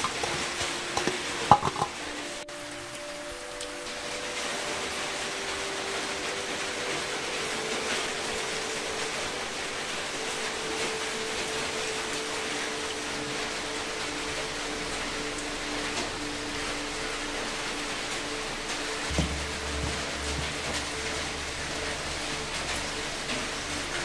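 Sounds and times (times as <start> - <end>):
faint sustained tones: 0.0 - 24.0
steady rain hiss: 0.0 - 24.0
water dripping off roof tiles: 0.0 - 24.0.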